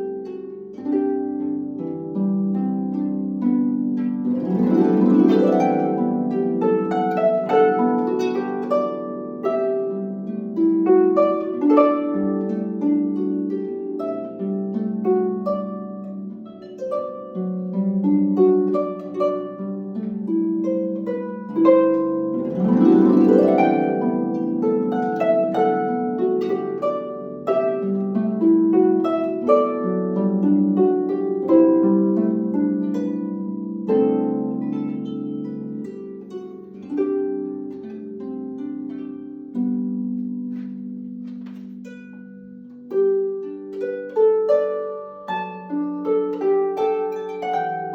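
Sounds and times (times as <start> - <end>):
harp glissando: 0.0 - 47.9
harp melody with plucked chords: 0.0 - 47.9.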